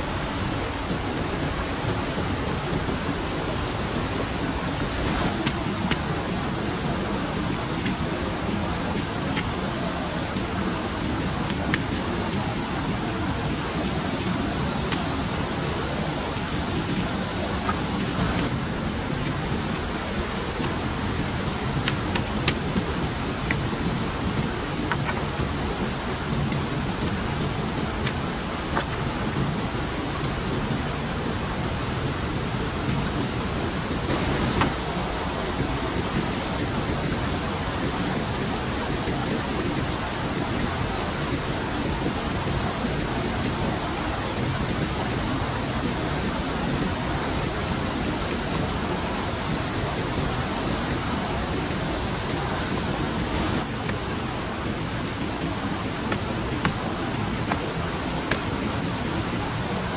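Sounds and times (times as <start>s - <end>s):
heavy rain falling: 0.0s - 59.9s
water rushing: 0.0s - 59.9s.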